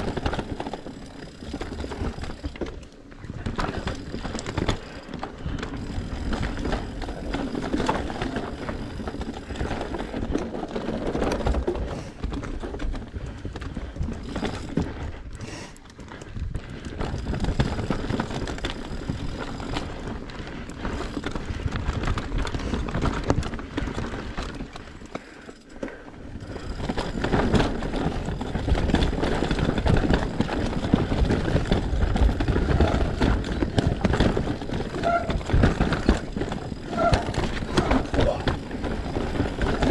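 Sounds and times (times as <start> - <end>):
bike rattling and clattering: 0.0 - 39.9
bike tyres rolling over dirt: 0.0 - 39.9.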